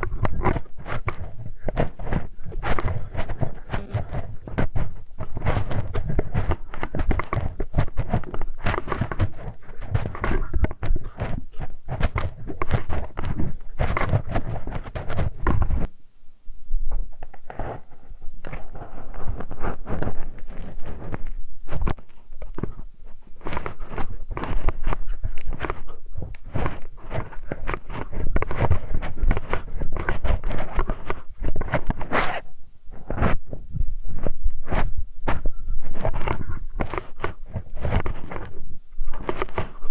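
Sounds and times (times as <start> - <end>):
tool scraping in ear: 0.0 - 15.9, 17.2 - 39.9.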